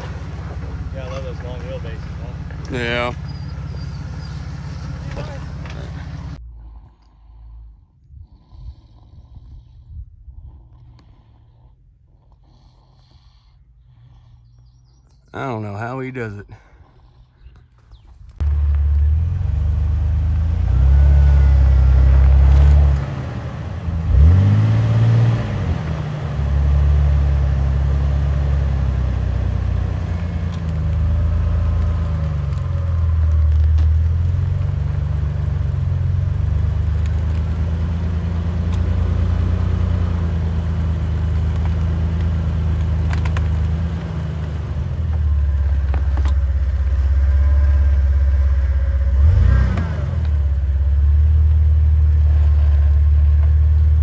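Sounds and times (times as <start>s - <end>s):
engine running at low revs: 0.0s - 11.8s, 18.2s - 54.0s.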